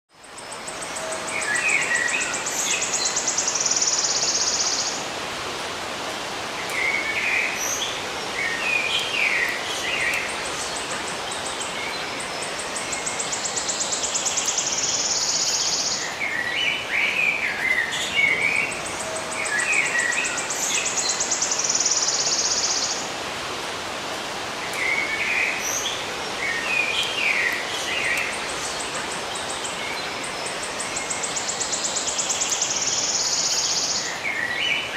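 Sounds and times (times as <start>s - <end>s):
steady background hiss: 0.2s - 34.9s.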